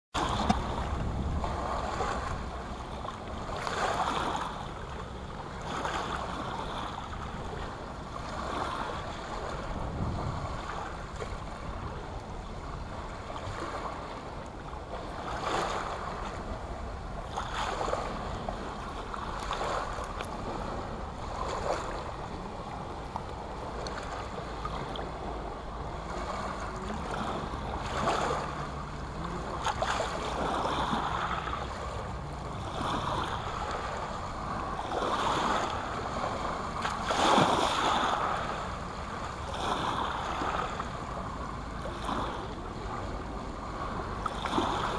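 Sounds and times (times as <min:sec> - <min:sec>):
waves washing over shingle: 0:00.2 - 0:44.9.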